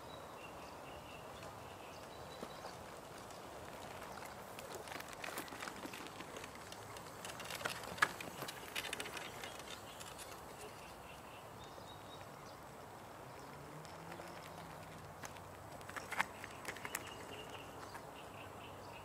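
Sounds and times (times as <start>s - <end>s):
faint outdoor background: 0.0s - 19.0s
footsteps on paved path: 1.3s - 11.0s, 11.6s - 18.3s.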